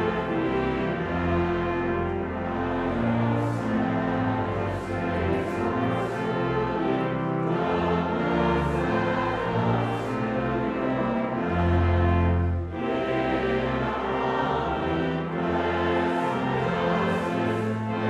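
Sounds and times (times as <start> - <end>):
congregation singing a hymn: 0.0 - 18.0
instrumental accompaniment: 0.0 - 18.0.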